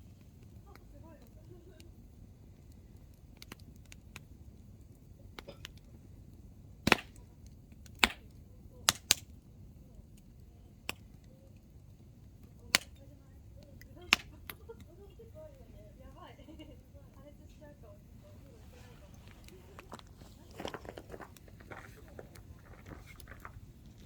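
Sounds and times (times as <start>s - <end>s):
campfire burning: 0.0s - 24.0s
firewood popping and cracking: 0.0s - 24.0s.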